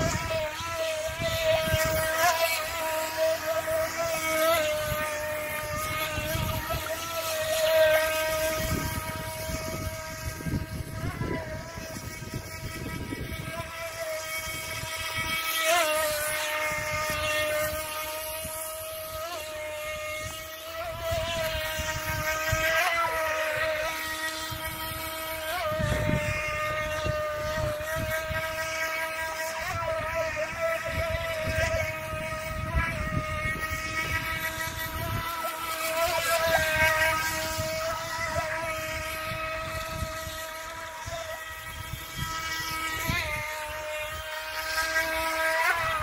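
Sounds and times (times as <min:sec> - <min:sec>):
electric motor high whine: 0:00.0 - 0:46.0.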